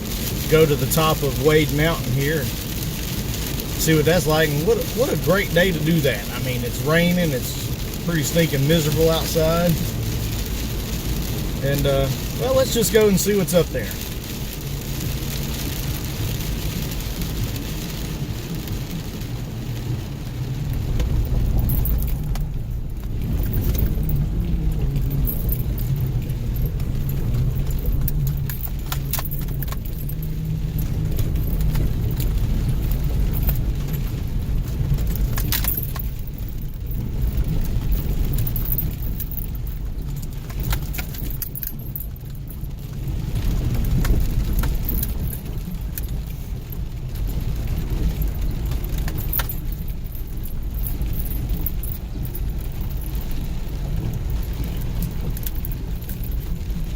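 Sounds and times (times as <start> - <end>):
light rattles and jingles: 0.0 - 56.9
vehicle engine and tyre rumble: 0.0 - 56.9.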